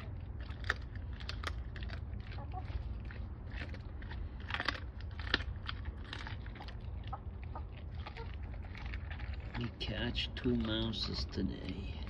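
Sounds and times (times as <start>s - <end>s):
dog chewing and crunching meat: 0.0s - 12.0s
low steady rumble: 0.0s - 12.0s.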